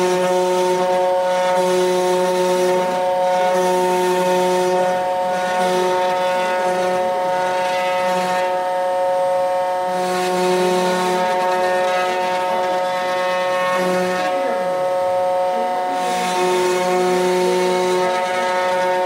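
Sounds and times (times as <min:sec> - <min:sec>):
low machine hum: 0:00.0 - 0:19.0
router spindle whine: 0:00.0 - 0:19.0.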